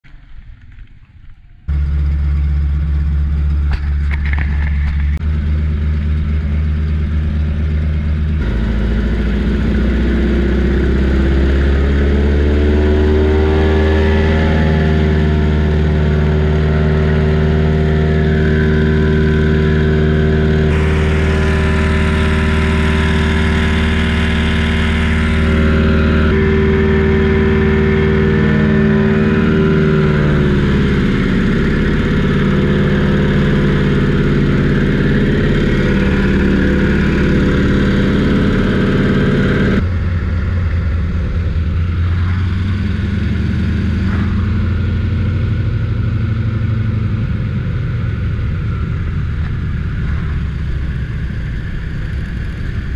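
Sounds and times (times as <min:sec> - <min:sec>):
propeller plane engine running: 0:00.1 - 0:52.9.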